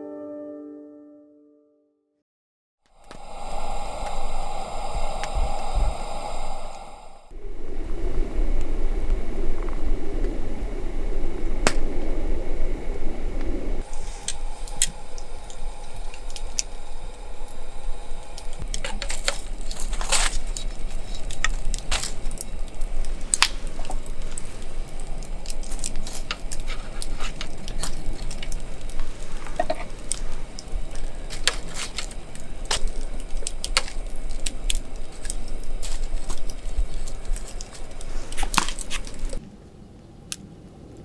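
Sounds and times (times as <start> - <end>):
campfire crackling and popping: 3.0 - 41.0
low rumble: 3.0 - 41.0.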